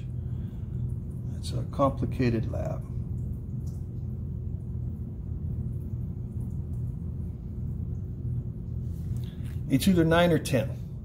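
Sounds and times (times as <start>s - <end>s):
faint constant tone: 0.0s - 11.0s
low background hum: 0.0s - 11.0s.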